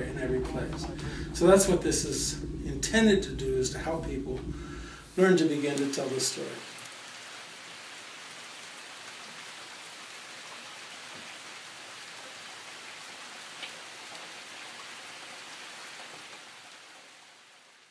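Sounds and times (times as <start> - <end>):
rain falling hiss: 0.0 - 17.9.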